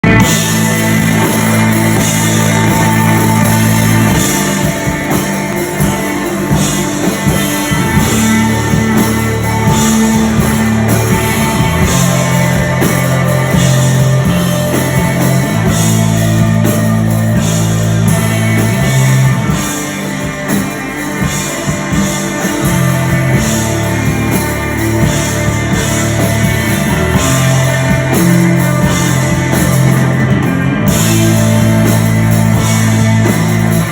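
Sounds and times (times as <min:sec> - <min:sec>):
bass guitar low notes: 0:00.0 - 0:33.9
drum kit with cymbals: 0:00.0 - 0:33.9
guitar playing melodic riffs: 0:00.0 - 0:33.9.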